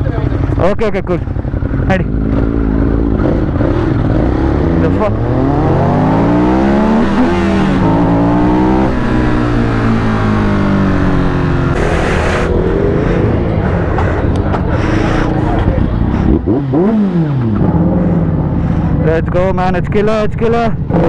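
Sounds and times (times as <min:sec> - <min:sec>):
car engine revving: 0:01.7 - 0:19.0, 0:20.7 - 0:21.0.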